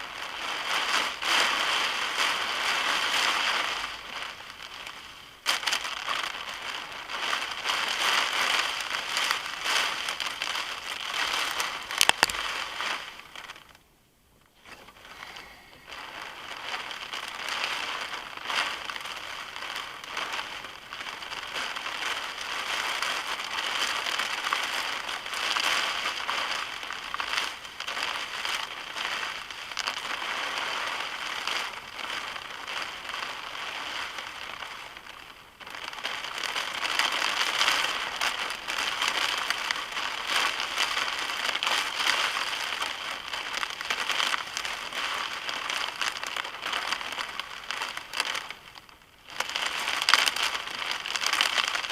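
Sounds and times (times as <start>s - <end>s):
heavy rain on car roof: 0.0s - 13.8s, 14.7s - 51.9s.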